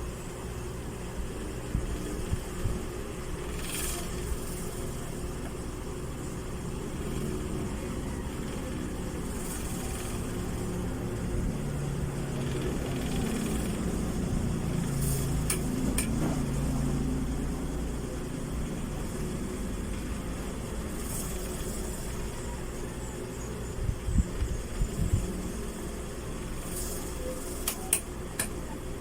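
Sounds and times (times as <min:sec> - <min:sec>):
fan clicking: 0:00.0 - 0:22.4, 0:26.5 - 0:29.0
wall fan humming: 0:00.0 - 0:29.0.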